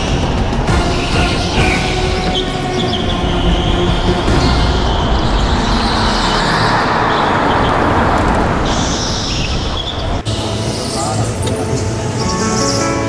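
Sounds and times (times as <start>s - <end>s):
go-kart engine drone: 0.0s - 12.6s.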